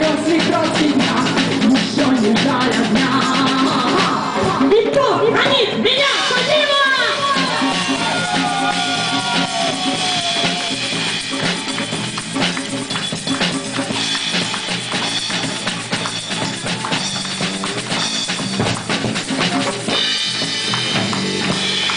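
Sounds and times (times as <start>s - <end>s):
drum kit beat: 0.0s - 21.9s.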